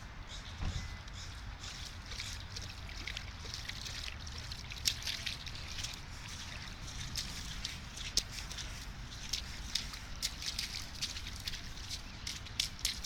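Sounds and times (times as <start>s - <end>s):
toddler splashing in puddles: 1.6s - 13.0s.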